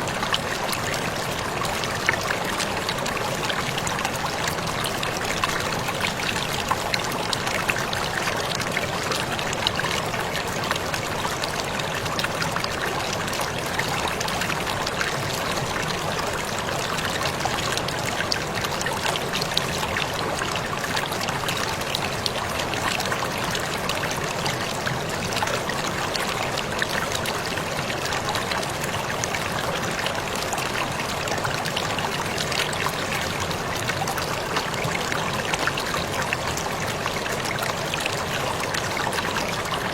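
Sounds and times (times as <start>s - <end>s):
water splashes and drips: 0.0s - 39.9s.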